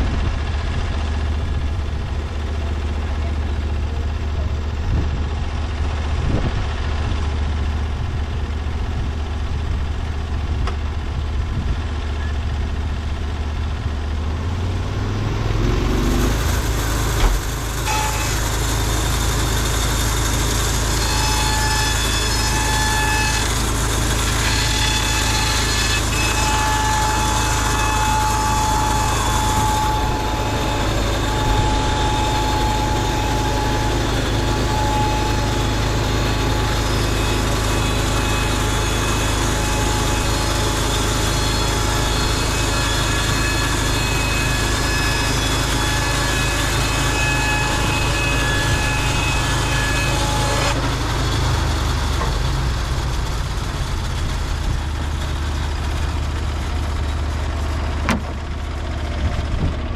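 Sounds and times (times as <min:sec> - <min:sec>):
band saw blade whining: 0:00.0 - 0:59.9
sawmill engine humming: 0:00.0 - 0:59.9.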